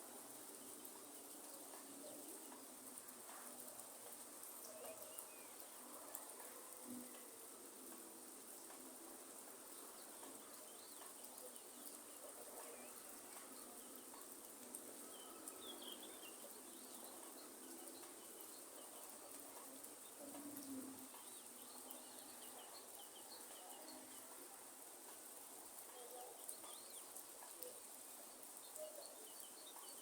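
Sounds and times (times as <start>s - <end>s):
soft steady hiss: 0.0s - 30.0s.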